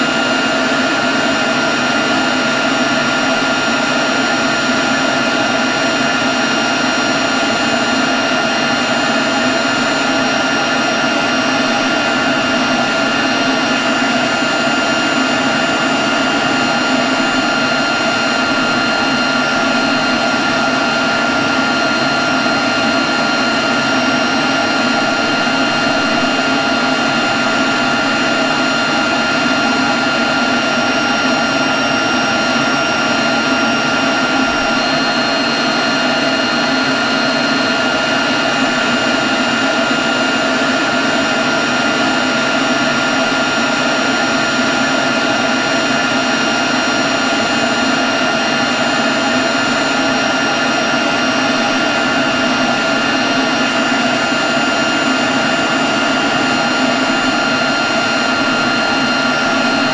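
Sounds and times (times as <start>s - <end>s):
leaf blower running: 0.0s - 59.9s.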